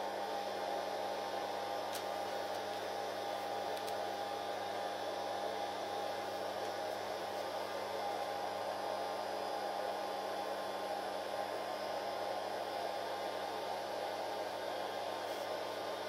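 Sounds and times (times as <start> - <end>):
welder mains hum: 0.0 - 16.0.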